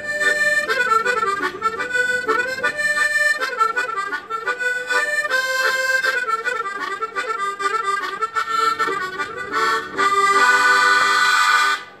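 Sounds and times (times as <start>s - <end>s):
harmonica dance tune: 0.0s - 12.0s.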